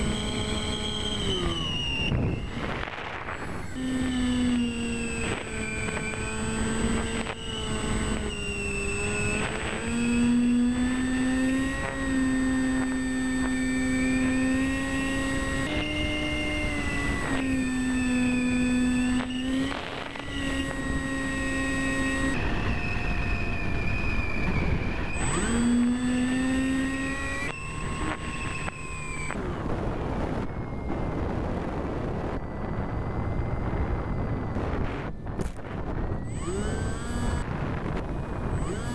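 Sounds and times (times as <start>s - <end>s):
model plane motor droning: 0.0s - 38.9s
wind rushing over microphone: 0.0s - 38.9s.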